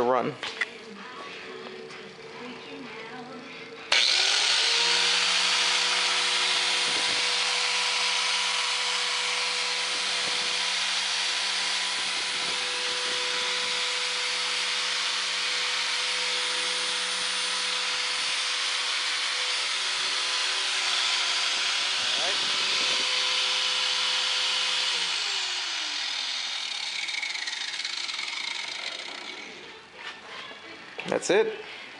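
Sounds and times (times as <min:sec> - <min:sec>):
angle grinder whining: 0:03.9 - 0:29.9.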